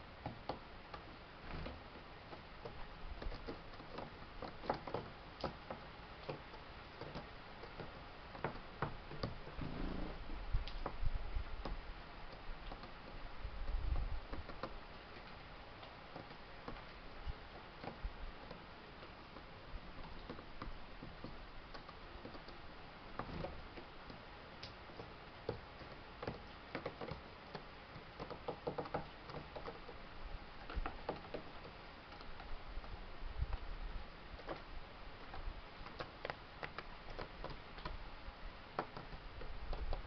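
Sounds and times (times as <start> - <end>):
birds pecking on hard floor: 0.2 - 9.6, 11.6 - 40.0.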